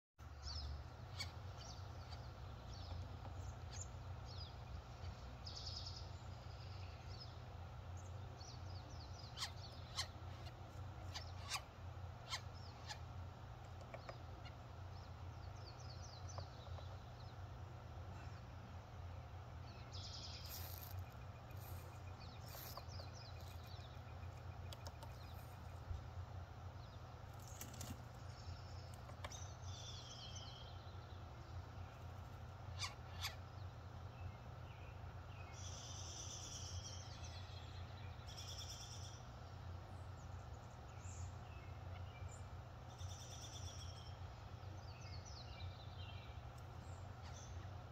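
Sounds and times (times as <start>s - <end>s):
birds singing: 0.2s - 47.9s
steady low hum: 0.2s - 47.9s.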